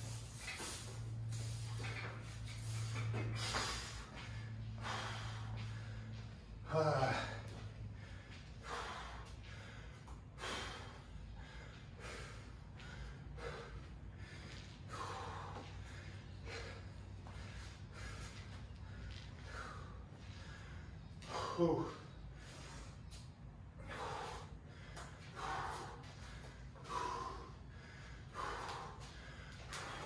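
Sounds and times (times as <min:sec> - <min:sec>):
man breathing hard: 0:00.0 - 0:30.0.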